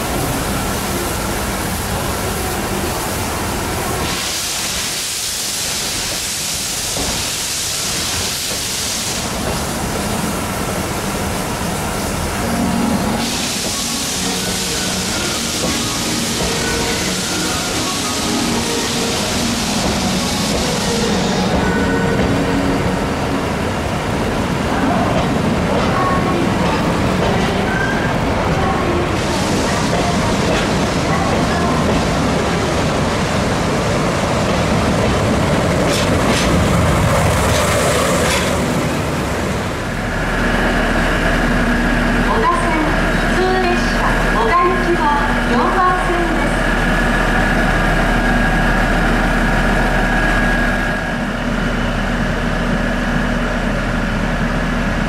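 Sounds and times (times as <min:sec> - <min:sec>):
loud steam hissing: 0:00.0 - 0:25.8, 0:26.4 - 0:54.0
train wheels rumbling on rails: 0:00.0 - 0:55.0.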